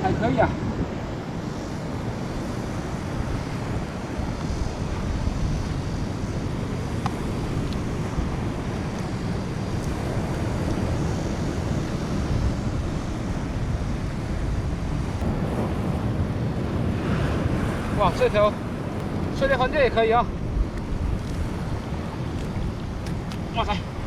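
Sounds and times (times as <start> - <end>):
waves washing on shore: 0.0 - 24.0
wind buffeting microphone: 0.0 - 24.0.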